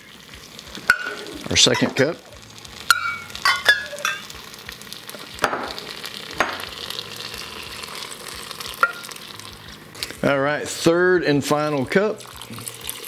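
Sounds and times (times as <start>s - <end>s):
rice sizzling as stock pours: 0.0s - 13.0s.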